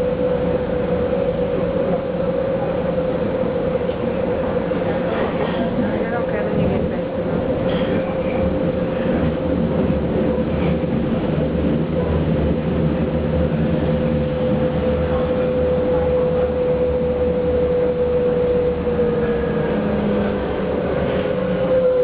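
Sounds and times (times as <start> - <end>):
train wheels rumbling on rails: 0.0 - 22.0
train whine: 0.0 - 22.0.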